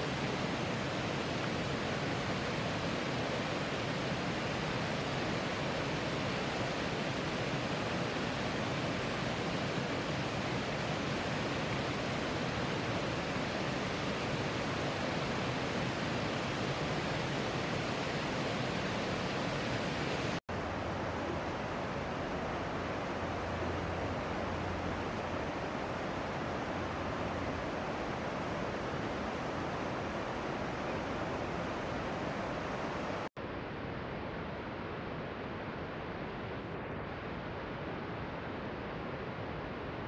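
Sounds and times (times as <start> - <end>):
river water rushing: 0.0 - 33.3.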